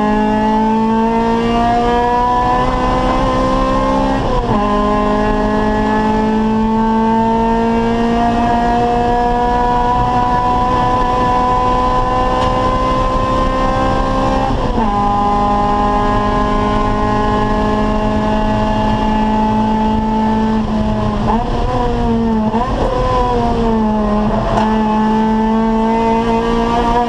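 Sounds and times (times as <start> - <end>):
race car engine at full throttle: 0.0 - 27.0.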